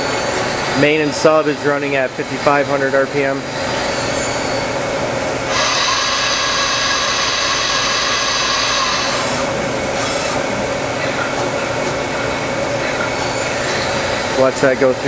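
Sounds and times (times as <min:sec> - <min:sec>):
machine constant hum: 0:00.0 - 0:15.0
spindles high whine: 0:00.0 - 0:15.0.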